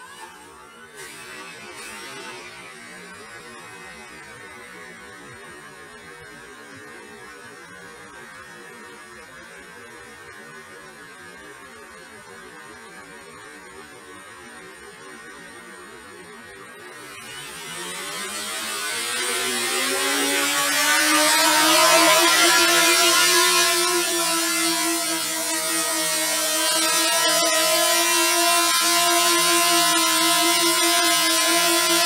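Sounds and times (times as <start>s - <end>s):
drone propellers whirring: 0.0s - 8.5s, 13.1s - 32.0s.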